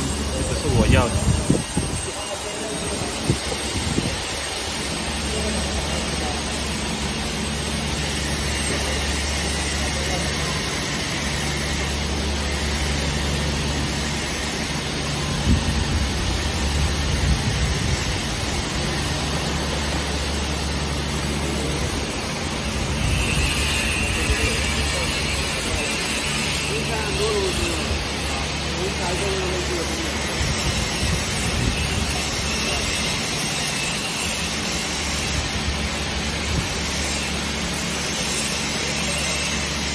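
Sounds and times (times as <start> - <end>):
assembly machines hissing and rattling: 0.0 - 39.9.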